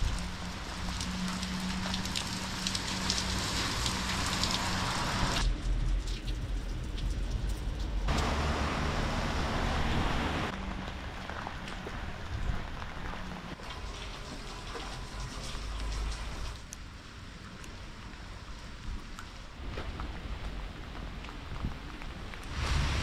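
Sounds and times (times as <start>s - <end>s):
raindrops ticking close by: 0.0s - 9.8s, 10.4s - 23.0s
rain falling: 0.0s - 23.0s.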